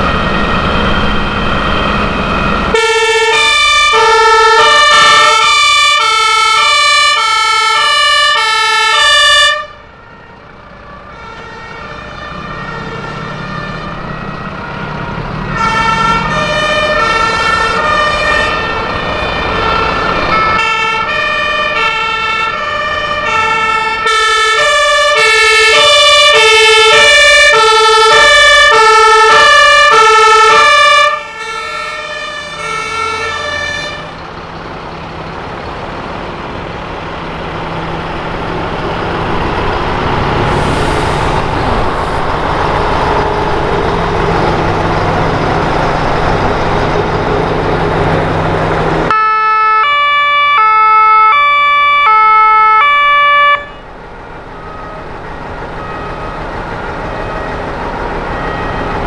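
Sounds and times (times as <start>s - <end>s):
diesel truck engine running: 0.0s - 59.0s
two-tone fire engine siren: 0.0s - 59.0s.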